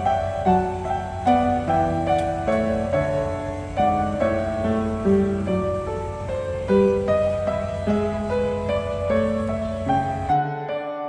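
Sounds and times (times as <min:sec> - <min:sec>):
slow keyboard chords music: 0:00.0 - 0:11.0.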